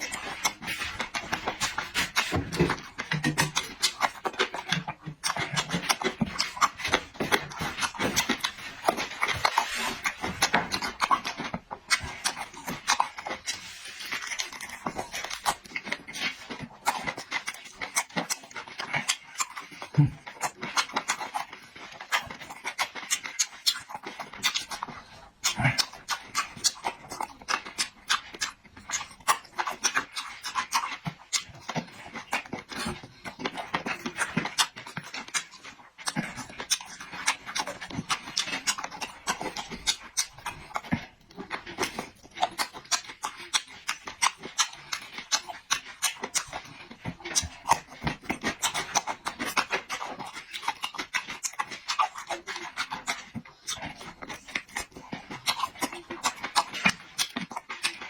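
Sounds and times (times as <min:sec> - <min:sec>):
chewing and lip-smacking: 0:00.0 - 0:58.0
wet mouth clicks: 0:00.0 - 0:58.0.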